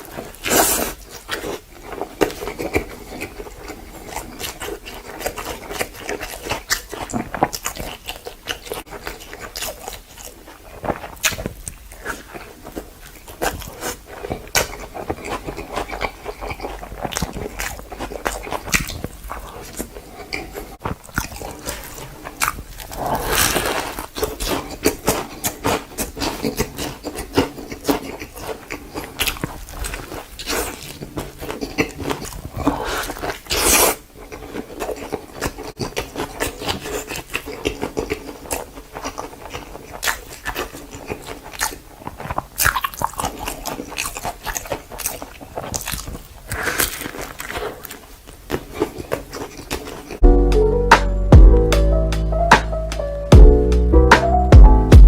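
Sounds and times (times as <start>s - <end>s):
panda chewing and crunching: 0.0s - 51.4s.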